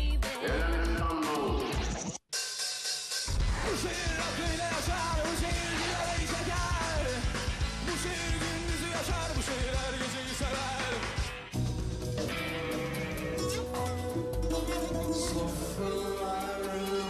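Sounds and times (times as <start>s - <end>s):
rock music with vocals: 0.0s - 2.1s, 3.3s - 17.0s.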